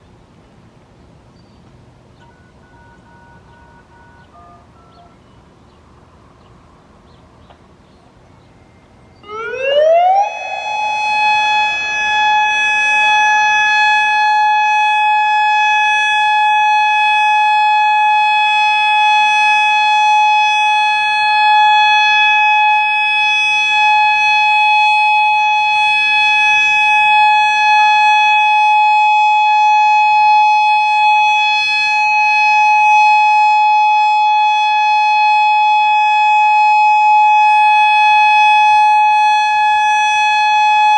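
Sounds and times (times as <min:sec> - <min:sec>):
outdoor warning siren: 0:02.3 - 0:07.1, 0:08.1 - 0:40.9.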